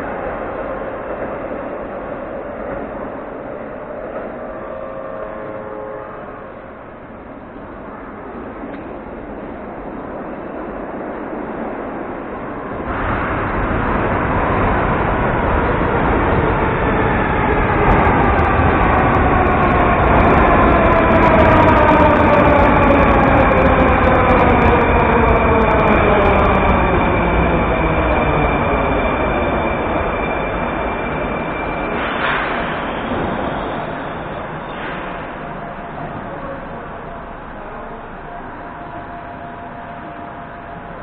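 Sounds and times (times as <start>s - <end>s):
metro train braking: 0.0s - 41.0s.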